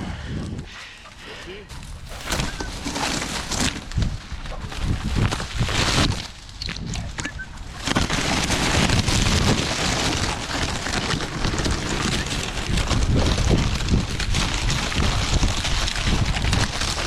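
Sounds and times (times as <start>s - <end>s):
wind and rubbing on microphone: 0.0s - 17.0s.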